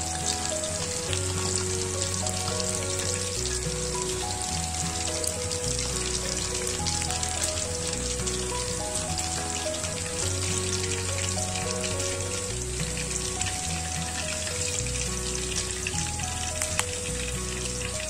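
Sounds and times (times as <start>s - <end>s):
background music: 0.0s - 18.0s
chicken frying in hot oil: 0.0s - 18.0s.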